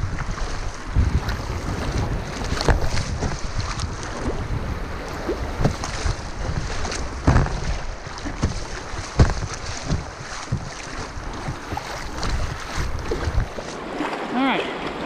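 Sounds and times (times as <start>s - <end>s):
churning river water: 0.0s - 15.0s
sharp water splashes: 0.0s - 15.0s
wind buffeting microphone: 0.0s - 15.0s.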